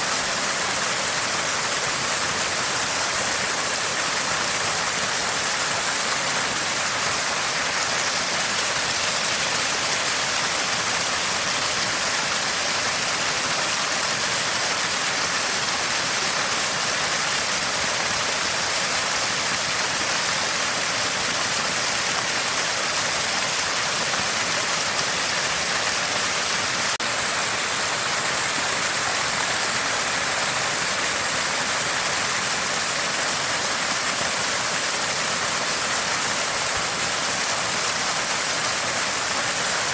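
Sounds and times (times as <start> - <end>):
spring water gushing: 0.0 - 39.9.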